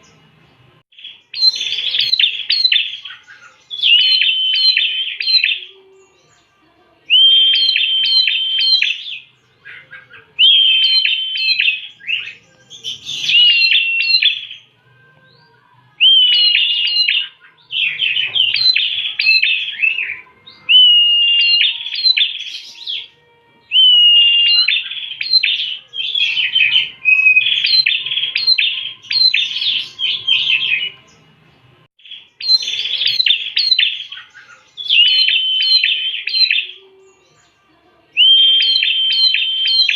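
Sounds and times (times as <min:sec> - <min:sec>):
bird singing sharp chirps: 0:00.9 - 0:06.5, 0:07.1 - 0:31.3, 0:32.0 - 0:37.6, 0:38.2 - 0:39.9.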